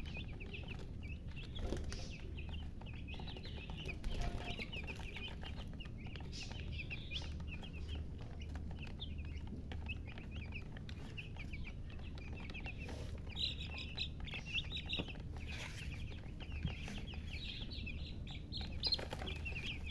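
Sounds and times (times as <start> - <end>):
baby chicks peeping: 0.0 - 19.9.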